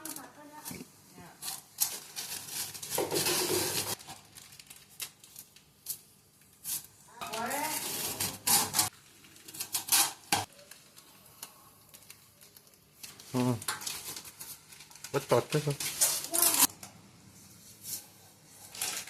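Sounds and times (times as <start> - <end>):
packaging rustling and scraping: 1.4 - 6.0, 6.6 - 16.7, 17.6 - 19.0.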